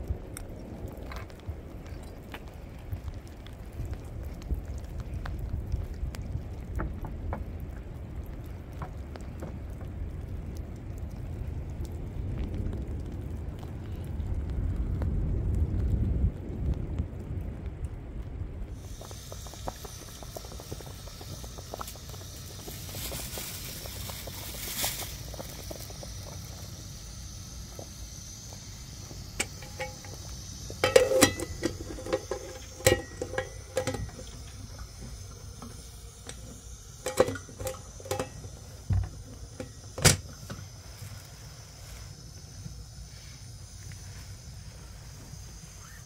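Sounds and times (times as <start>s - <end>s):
steady low rumble: 0.0s - 46.0s.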